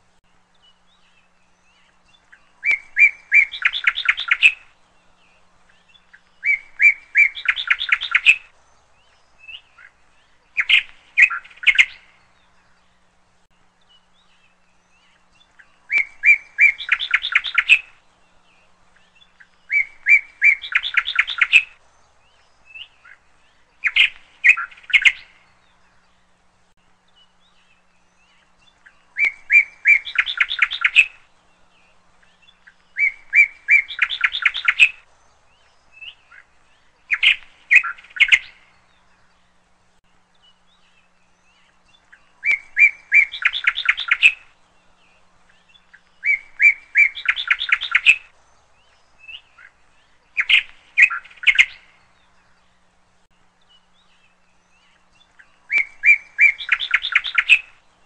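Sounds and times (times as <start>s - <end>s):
songbird singing with trill: 0.0s - 58.0s.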